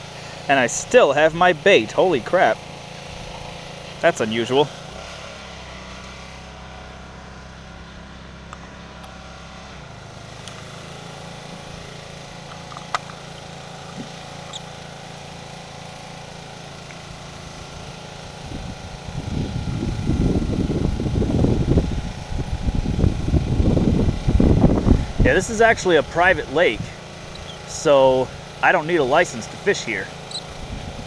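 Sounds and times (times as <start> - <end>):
distant small engine droning: 0.0 - 31.0.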